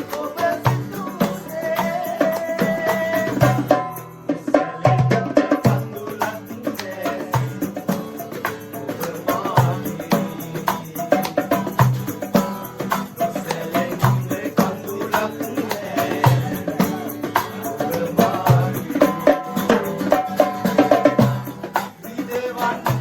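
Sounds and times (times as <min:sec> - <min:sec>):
hand percussion music: 0:00.0 - 0:23.0.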